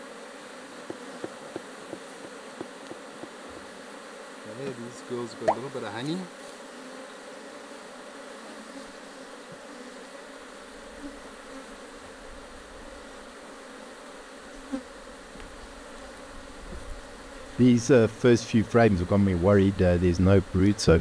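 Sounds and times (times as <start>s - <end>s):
honey bees humming: 0.0s - 21.0s.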